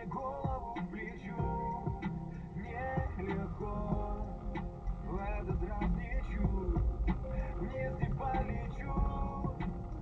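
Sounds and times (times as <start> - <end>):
man singing pop song: 0.0 - 10.0.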